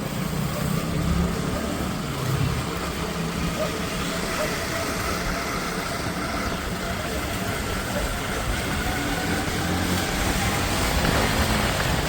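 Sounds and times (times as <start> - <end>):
motorcycle engine running: 0.0 - 12.0
road noise rushing: 0.0 - 12.0.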